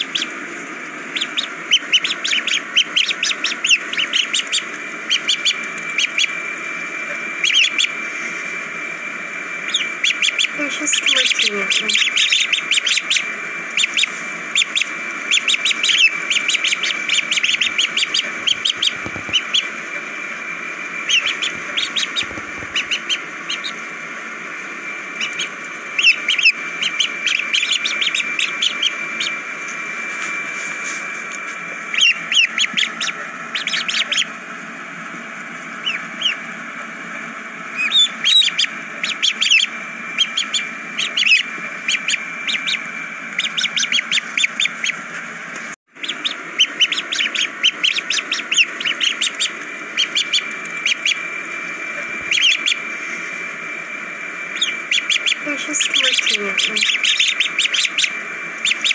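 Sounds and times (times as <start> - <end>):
ducklings peeping: 0.0 - 34.5, 35.4 - 58.9.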